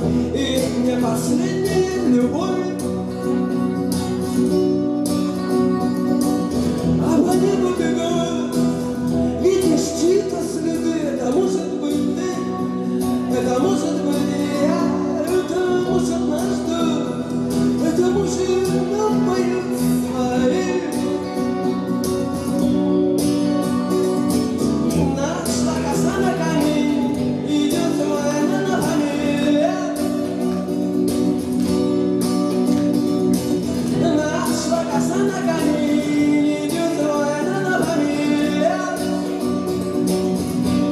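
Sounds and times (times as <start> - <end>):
guitars playing: 0.0 - 40.9
man singing: 0.0 - 40.9.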